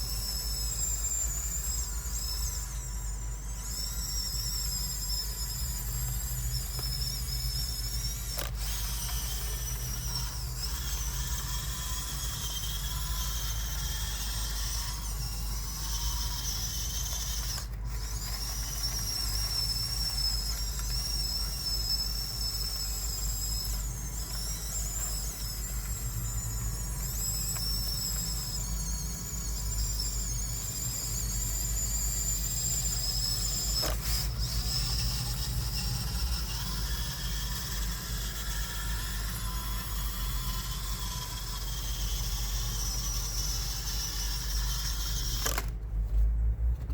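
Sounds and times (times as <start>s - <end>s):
gear and track ratcheting: 0.0s - 45.8s
electric motors whining: 0.0s - 46.2s.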